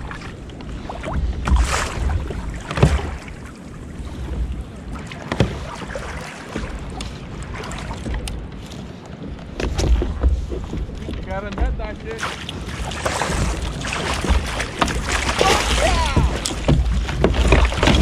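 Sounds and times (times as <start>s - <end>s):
water sloshing against kayak hull: 0.0s - 18.0s
wind rumbling on microphone: 0.0s - 18.0s.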